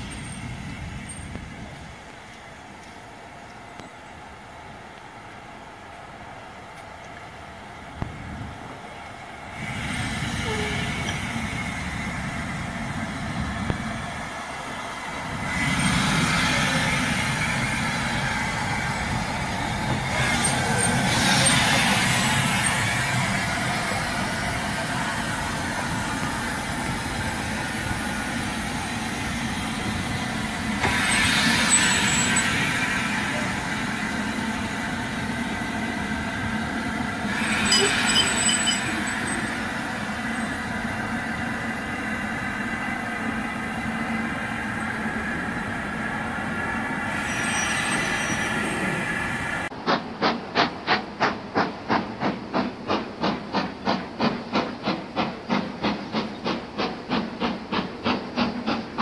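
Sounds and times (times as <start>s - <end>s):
steam locomotive rumbling: 0.0s - 59.0s
steam hissing: 9.4s - 59.0s.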